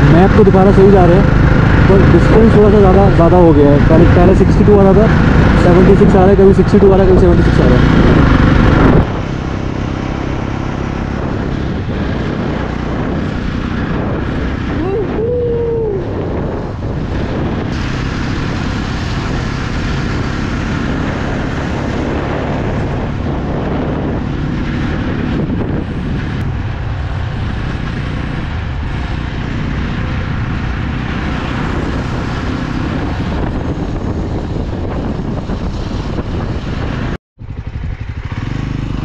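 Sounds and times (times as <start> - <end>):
motorcycle engine running: 0.0 - 39.0
wind rushing over microphone: 0.0 - 39.0.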